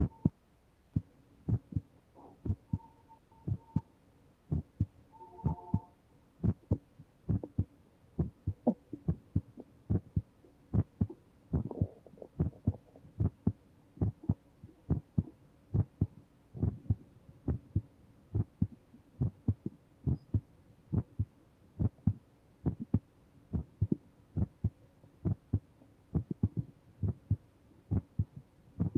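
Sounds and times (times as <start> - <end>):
heartbeat thumping: 0.0 - 0.4, 1.0 - 2.9, 3.5 - 3.9, 4.5 - 28.9.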